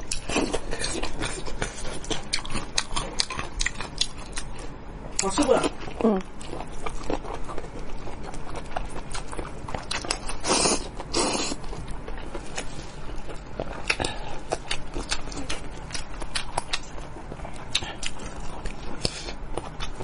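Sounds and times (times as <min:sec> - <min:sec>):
chewing and lip-smacking: 0:00.0 - 0:20.0.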